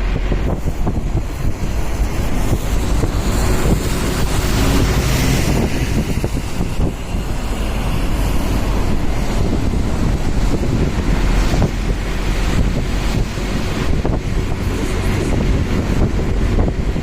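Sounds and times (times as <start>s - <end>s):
moving vehicle rumble: 0.0s - 17.0s
wind buffeting microphone: 0.0s - 17.0s.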